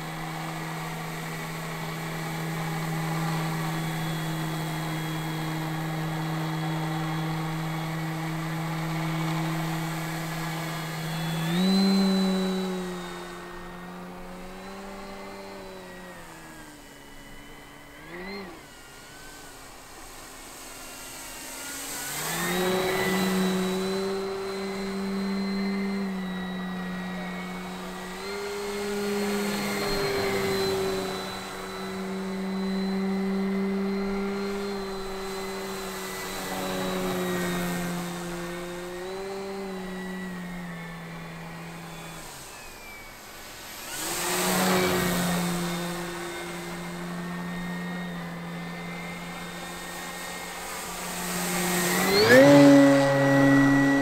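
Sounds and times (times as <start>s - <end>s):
model plane electric motor hum: 0.0s - 54.0s.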